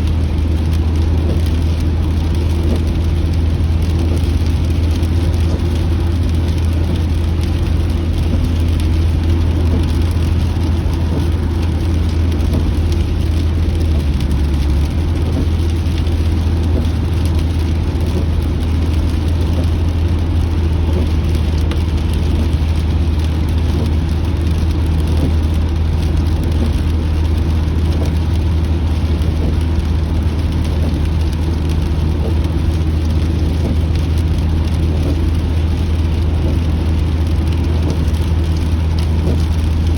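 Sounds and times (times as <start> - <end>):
car interior road rumble: 0.0 - 39.9
rain pattering on car: 0.0 - 39.9.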